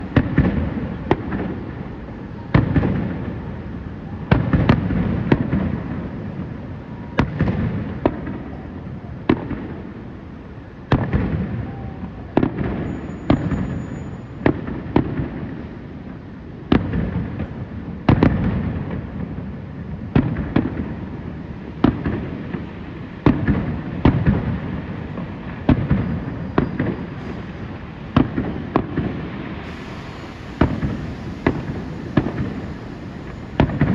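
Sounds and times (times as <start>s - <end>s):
fireworks bursting: 0.0s - 33.9s.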